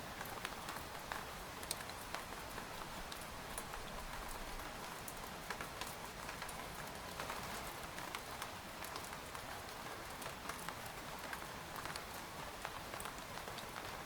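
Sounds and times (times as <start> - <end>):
rain falling on a tent: 0.0 - 14.0.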